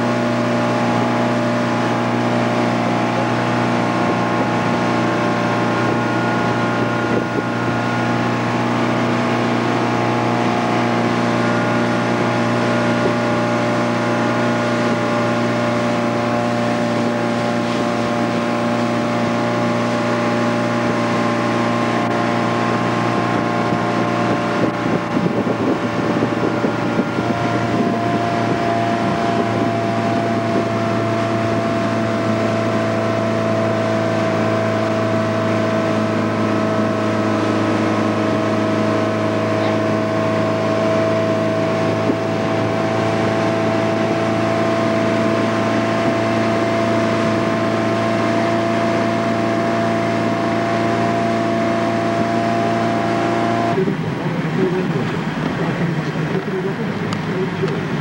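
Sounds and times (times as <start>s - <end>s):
motorboat engine running: 0.0s - 58.0s
rushing wake water: 0.0s - 58.0s
wind: 0.0s - 58.0s.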